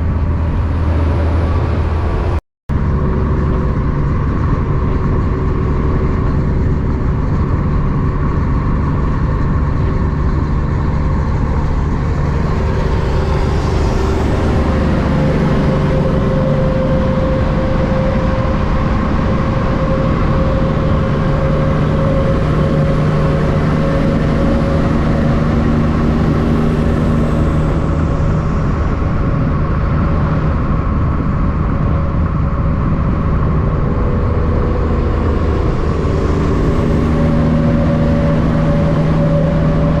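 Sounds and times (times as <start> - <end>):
diesel trucks passing: 0.0 - 40.0.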